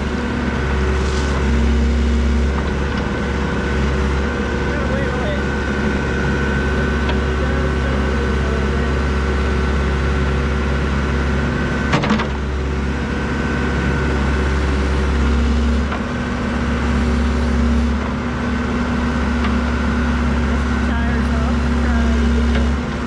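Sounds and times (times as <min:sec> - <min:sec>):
backhoe diesel engine running: 0:00.0 - 0:23.0.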